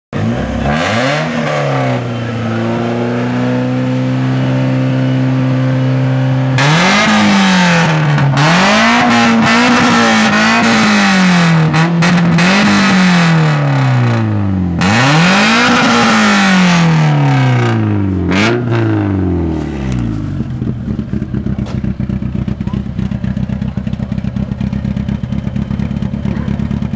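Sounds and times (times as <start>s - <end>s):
car engine revving: 0.2s - 26.9s.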